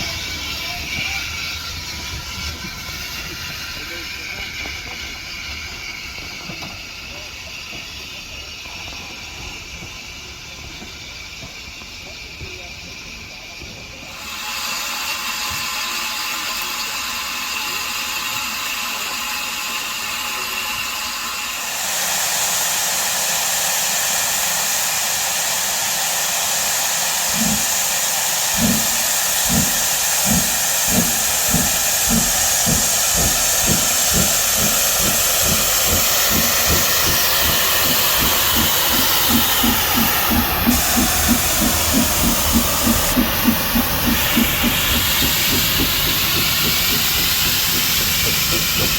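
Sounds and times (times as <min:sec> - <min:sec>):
steam locomotive exhaust beats: 0:00.0 - 0:48.9
steam locomotive hissing: 0:00.0 - 0:48.9.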